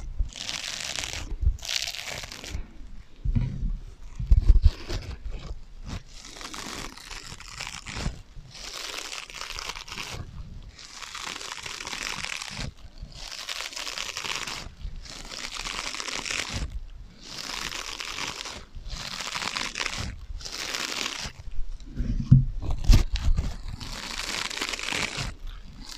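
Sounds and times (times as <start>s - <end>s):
scratching on sponges: 0.0s - 25.9s.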